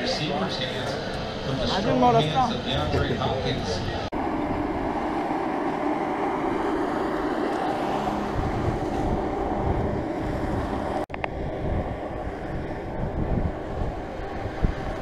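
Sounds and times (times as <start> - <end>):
wind buffeting microphone: 0.7 - 15.0.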